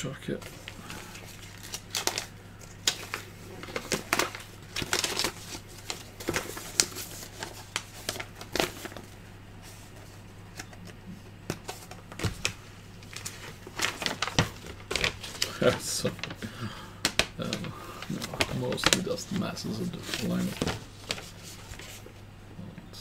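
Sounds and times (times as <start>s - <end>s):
faint low hum: 0.0s - 23.0s
paper packaging rustling: 0.4s - 10.9s, 11.5s - 22.1s.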